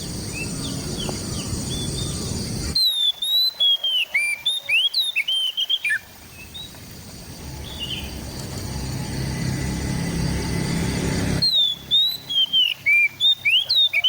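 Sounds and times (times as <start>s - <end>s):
bird singing whistled notes: 0.0s - 6.8s, 7.4s - 9.3s, 10.1s - 14.0s.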